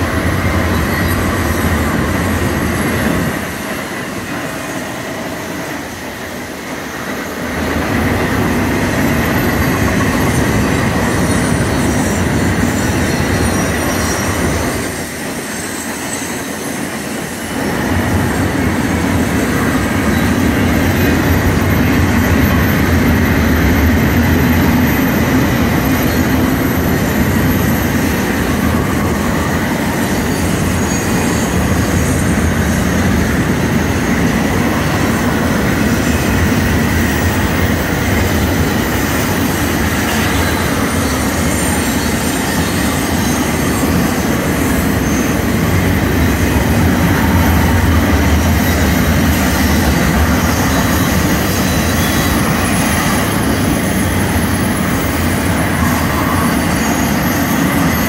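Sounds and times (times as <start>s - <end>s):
freight train wheels rumbling: 0.0s - 58.0s
high wheel squeal: 0.0s - 58.0s.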